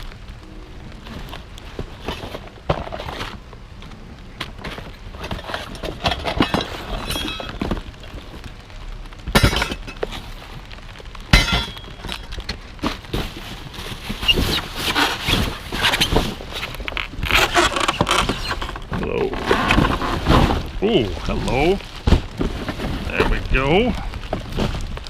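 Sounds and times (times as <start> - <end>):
trash rummaged in dumpster: 1.0 - 3.5, 4.3 - 8.5, 11.3 - 25.0.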